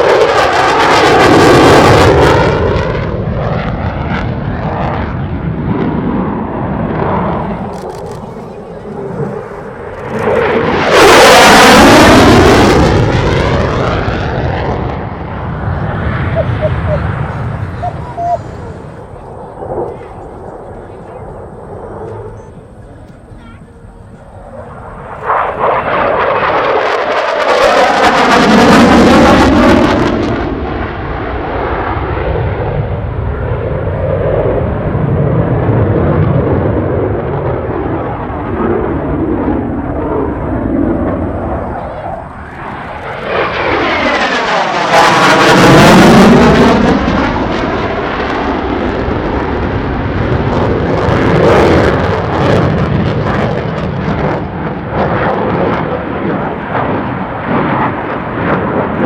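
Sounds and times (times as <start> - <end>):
fighter jet passing overhead: 0.0 - 59.0.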